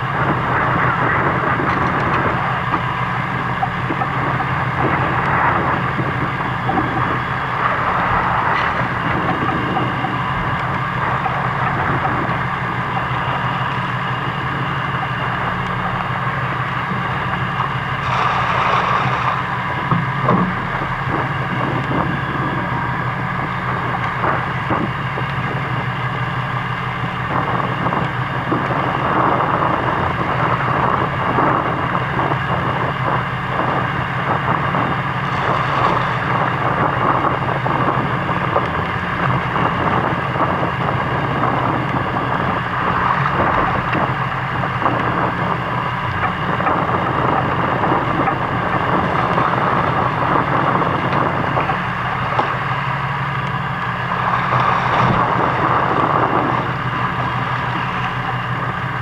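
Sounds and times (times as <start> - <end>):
boat engine running: 0.0 - 59.0
wind noise on microphone: 0.0 - 59.0.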